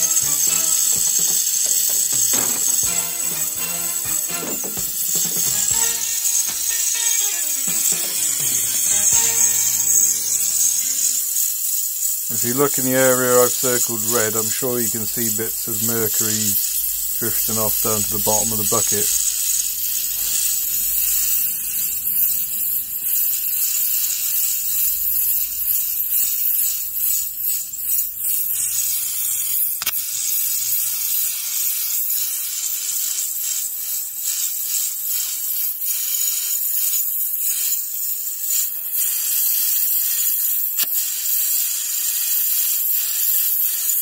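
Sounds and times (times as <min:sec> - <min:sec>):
torch flame hissing: 0:00.0 - 0:44.0.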